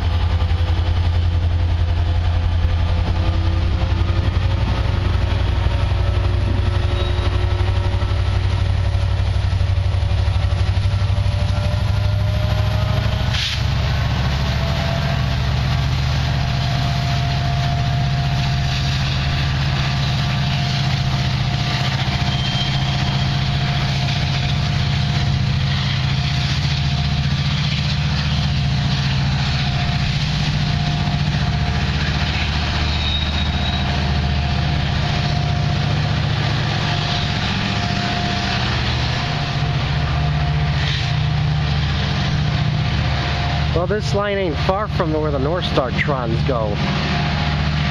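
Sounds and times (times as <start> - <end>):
locomotive engine rumbling: 0.0 - 47.9.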